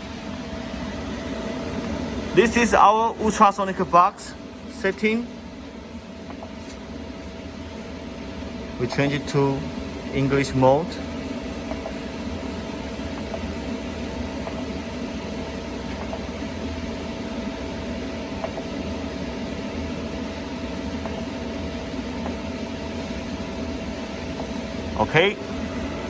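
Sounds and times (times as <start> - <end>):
welding machine hum and hiss: 0.0 - 26.0.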